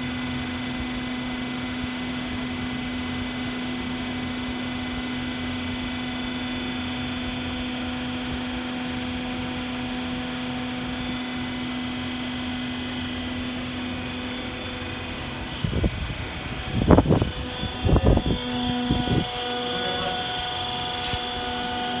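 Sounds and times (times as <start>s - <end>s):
hydraulic pump humming: 0.0s - 22.0s.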